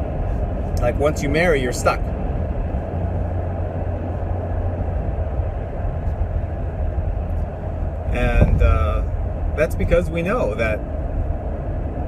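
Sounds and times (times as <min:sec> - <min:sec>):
vehicle running noise: 0:00.0 - 0:12.0.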